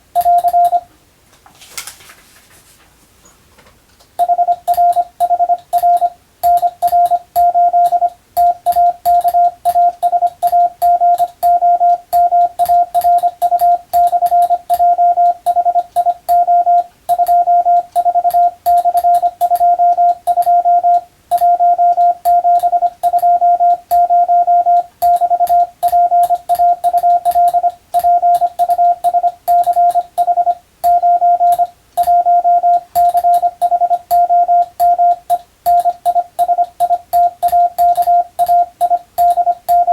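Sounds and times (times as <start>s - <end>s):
morse code tone: 0.1s - 0.9s, 4.2s - 39.9s.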